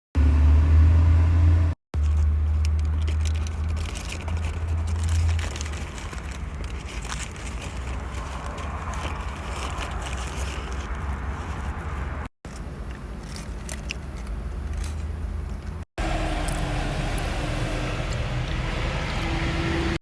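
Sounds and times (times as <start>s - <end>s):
vehicle rumble: 0.2s - 20.0s.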